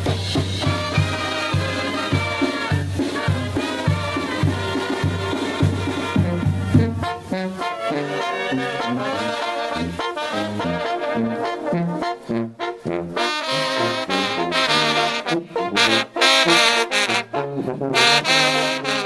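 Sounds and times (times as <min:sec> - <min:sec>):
brass band playing lively tune: 0:00.0 - 0:19.0
trombones and trumpets melody: 0:00.0 - 0:19.0.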